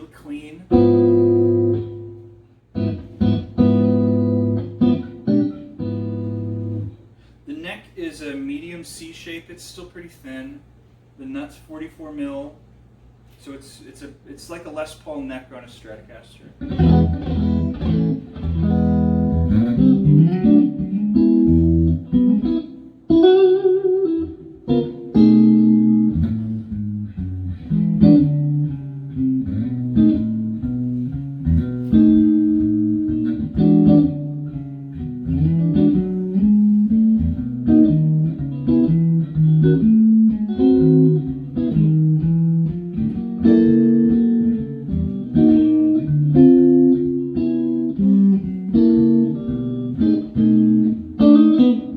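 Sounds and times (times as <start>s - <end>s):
clean electric guitar: 0.0s - 7.4s, 16.5s - 51.9s.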